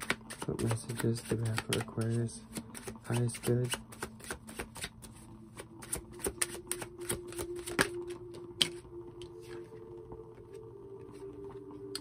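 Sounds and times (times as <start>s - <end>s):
cards being shuffled: 0.0s - 9.7s.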